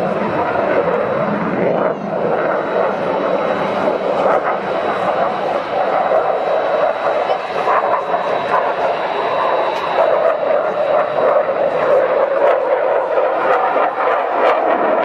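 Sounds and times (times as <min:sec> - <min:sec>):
jet engines roaring with crackles: 0:00.0 - 0:15.0.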